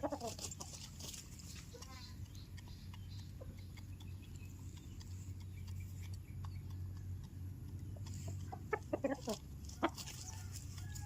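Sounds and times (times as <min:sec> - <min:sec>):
steady low hum: 0:00.0 - 0:11.0
faint ticks and clicks: 0:00.1 - 0:11.0.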